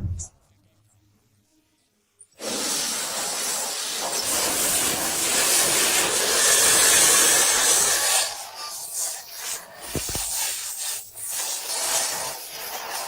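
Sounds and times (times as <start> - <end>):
paint spray gun hissing: 2.4 - 13.0.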